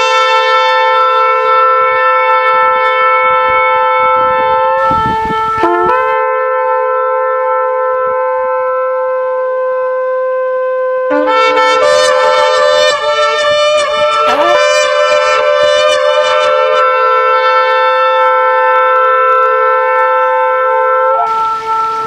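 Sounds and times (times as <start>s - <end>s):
ram's horn blasts: 0.0s - 9.0s, 11.0s - 22.0s.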